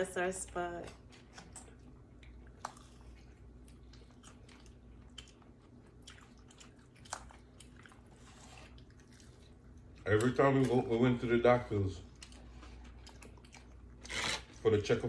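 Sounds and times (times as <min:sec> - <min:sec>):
faint low hum: 0:00.0 - 0:15.0
quiet chewing: 0:00.4 - 0:14.7.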